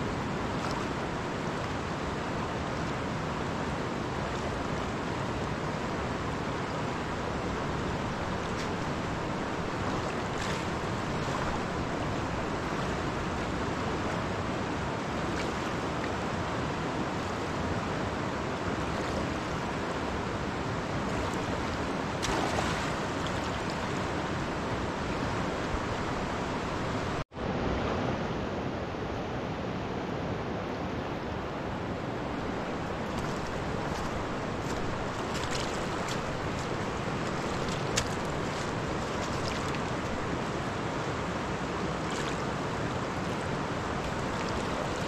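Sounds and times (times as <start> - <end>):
river rushing: 0.0 - 45.0.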